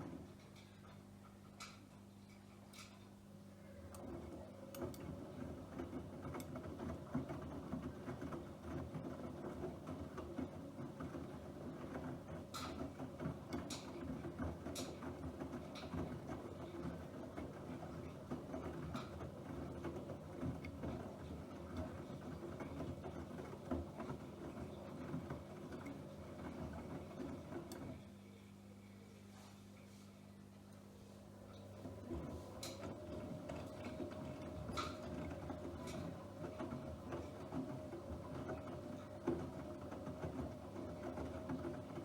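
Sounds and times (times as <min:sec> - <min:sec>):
washing machine rattling: 0:04.2 - 0:28.0, 0:31.6 - 0:42.0.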